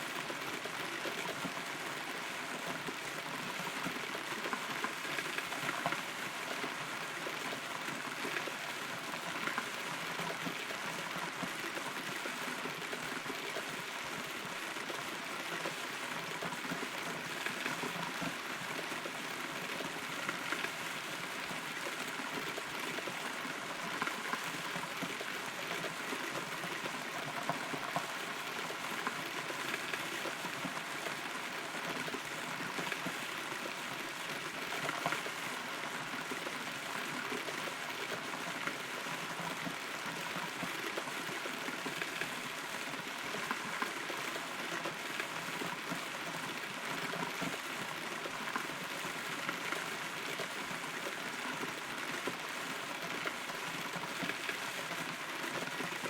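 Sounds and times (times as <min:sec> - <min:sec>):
rain drops hitting: 0:00.0 - 0:56.0.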